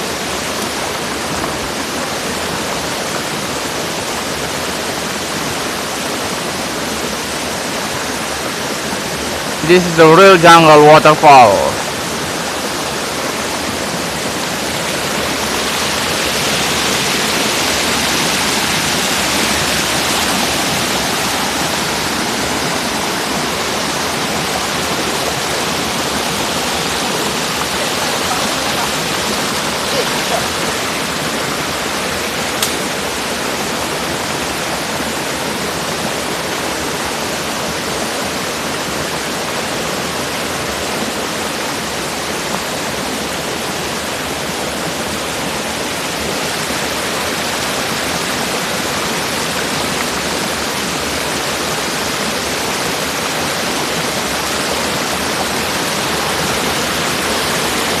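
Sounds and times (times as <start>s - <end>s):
waterfall crashing into pool: 0.0s - 58.0s.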